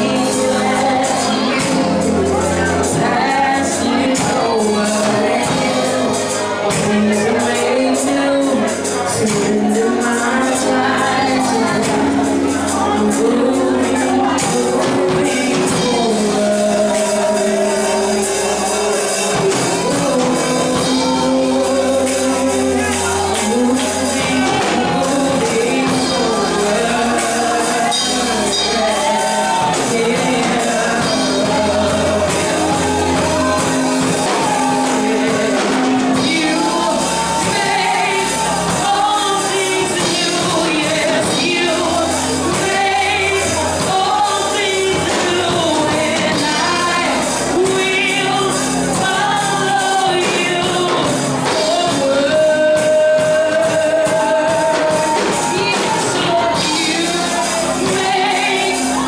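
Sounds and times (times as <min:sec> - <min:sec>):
instrumental backing with bass: 0:00.0 - 0:59.0
woman singing gospel: 0:00.0 - 0:59.0.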